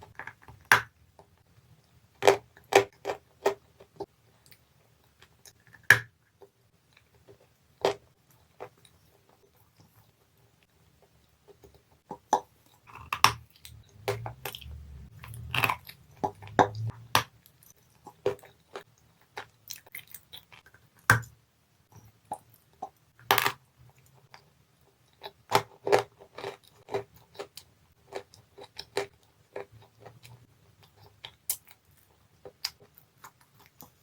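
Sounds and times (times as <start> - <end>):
crunchy clay being chewed: 0.0 - 21.3, 21.9 - 34.0.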